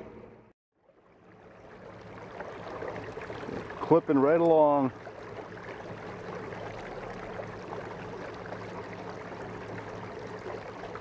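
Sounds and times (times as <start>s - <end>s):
water rushing and splashing: 1.0s - 11.0s.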